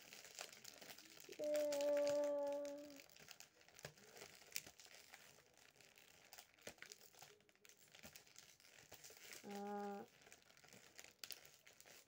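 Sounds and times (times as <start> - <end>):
plastic and foil wrapper crinkling: 0.0 - 12.0.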